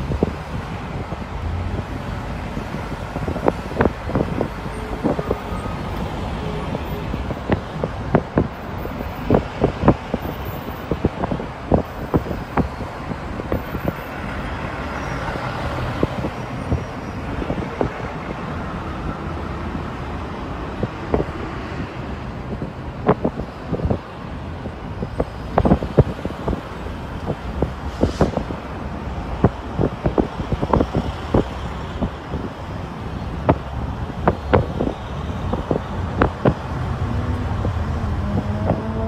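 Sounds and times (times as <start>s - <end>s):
road traffic rumble: 0.0s - 39.0s.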